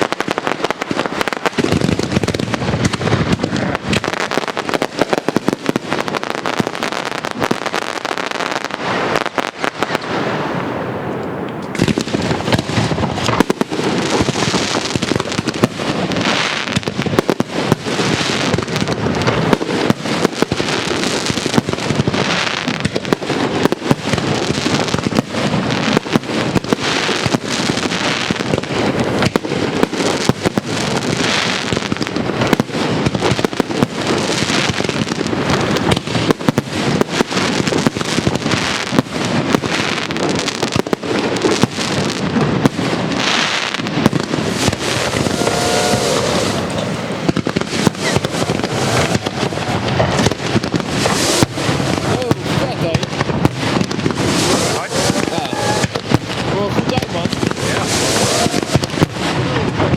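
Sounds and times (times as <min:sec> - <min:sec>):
fireworks bursts and bangs: 0:00.0 - 0:59.9
fireworks crackling: 0:00.0 - 0:59.9.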